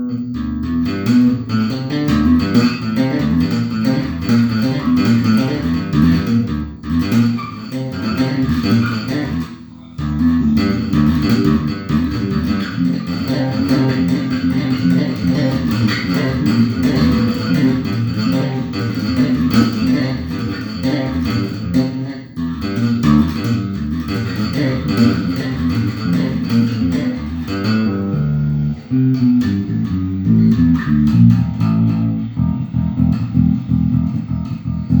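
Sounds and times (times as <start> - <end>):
plucked bass guitar notes: 0.0 - 35.0.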